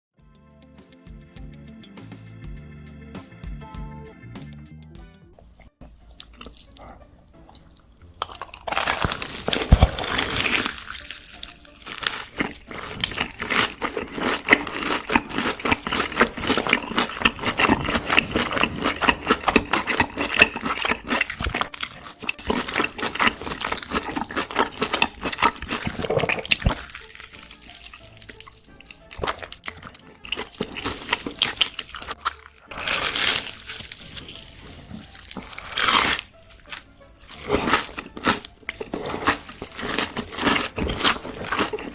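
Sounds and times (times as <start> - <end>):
crunchy bites: 5.4 - 41.9
wet sticky chewing: 5.4 - 41.9.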